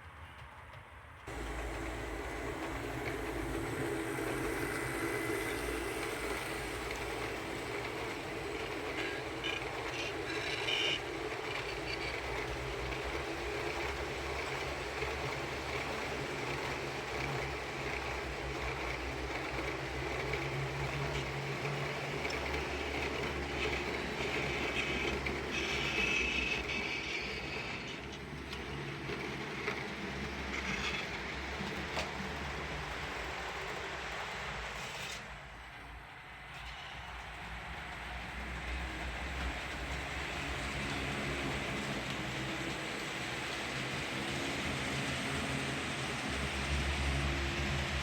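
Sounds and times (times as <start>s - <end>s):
model train mechanical hum: 0.0s - 48.0s
wheels rolling on track: 0.0s - 48.0s.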